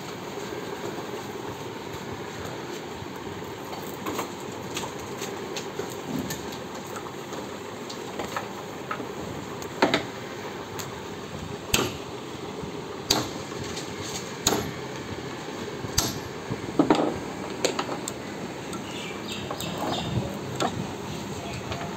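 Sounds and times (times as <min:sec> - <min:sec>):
steady background noise: 0:00.0 - 0:21.9.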